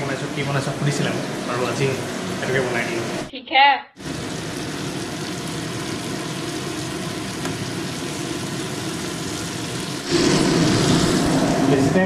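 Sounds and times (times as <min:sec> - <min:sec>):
food sizzling in oil: 0:00.0 - 0:03.3, 0:04.0 - 0:12.0.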